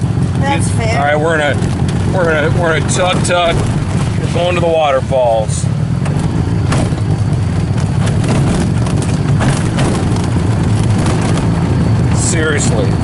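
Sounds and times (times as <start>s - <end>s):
road noise: 0.0s - 13.0s
tuk-tuk engine running: 0.0s - 13.0s.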